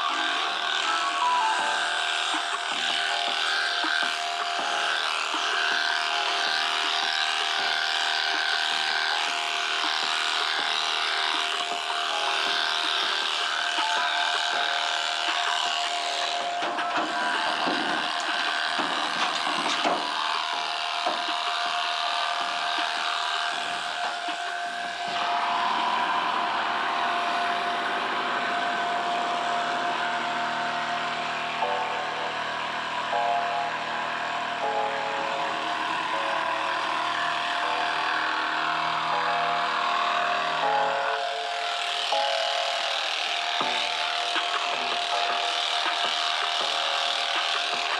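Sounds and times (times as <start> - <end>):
electric shears clipping wool: 0.0 - 47.9.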